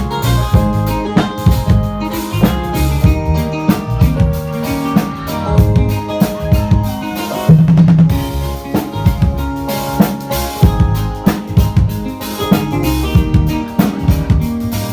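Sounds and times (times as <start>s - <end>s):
band playing: 0.0s - 14.9s.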